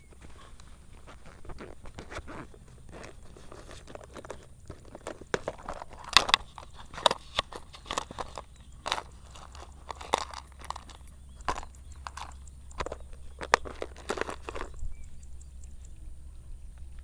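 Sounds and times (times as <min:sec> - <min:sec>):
footsteps crunching through dry grass: 0:00.0 - 0:15.1.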